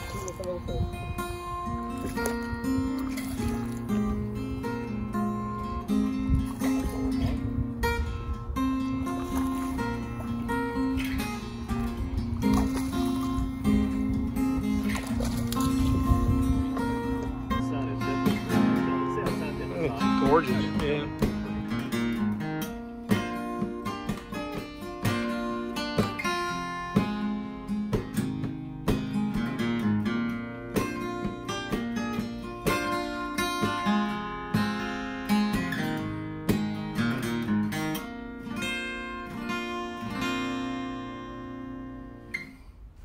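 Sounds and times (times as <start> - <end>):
acoustic guitar music: 0.0 - 43.0.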